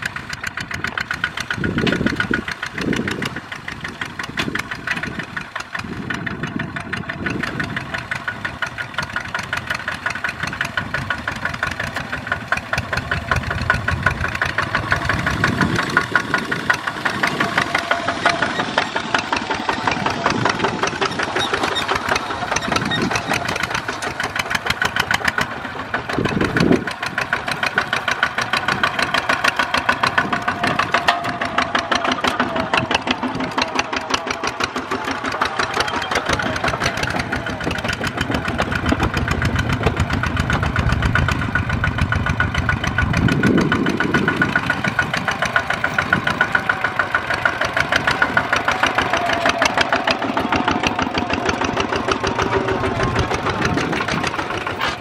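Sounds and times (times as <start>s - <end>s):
diesel tractor engines chugging: 0.0s - 55.0s.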